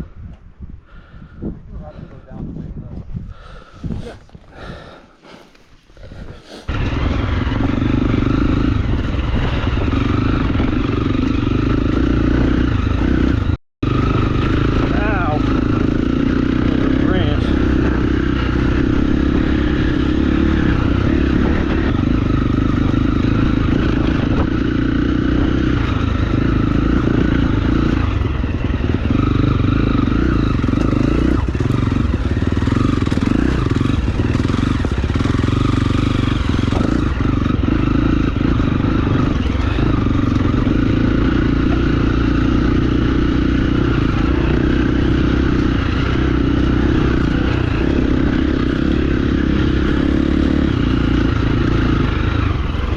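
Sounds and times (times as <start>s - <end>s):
dirt bike engine revving: 6.6s - 52.9s
knocks and rattles from bike: 6.8s - 14.8s, 17.4s - 52.9s.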